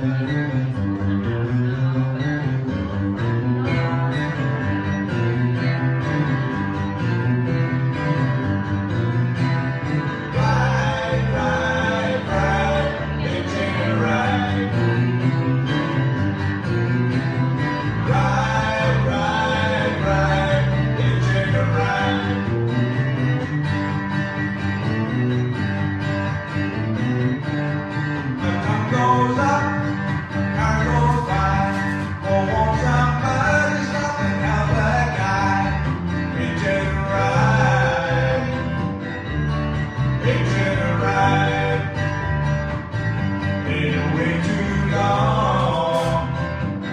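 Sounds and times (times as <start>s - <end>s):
live guitar music: 0.0s - 46.9s
rhythmic bass line: 0.0s - 46.9s.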